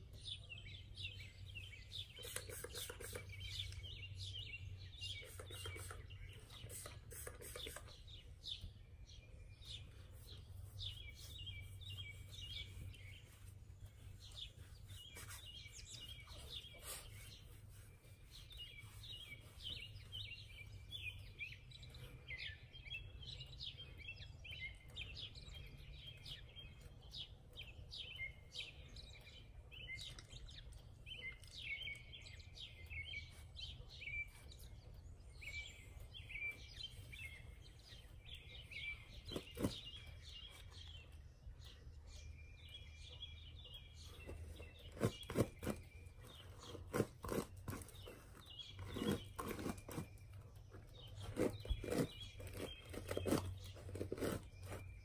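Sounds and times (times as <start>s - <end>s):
faint bird chirping: 0.0s - 55.0s.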